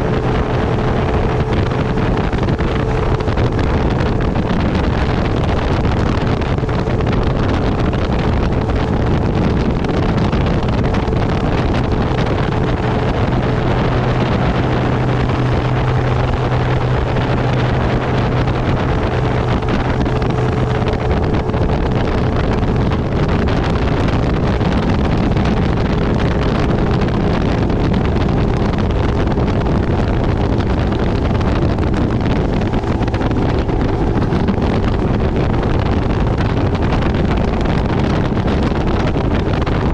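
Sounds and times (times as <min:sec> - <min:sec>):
low engine hum: 0:00.0 - 0:39.9
motorboat running: 0:00.0 - 0:39.9
wind noise on microphone: 0:00.0 - 0:39.9.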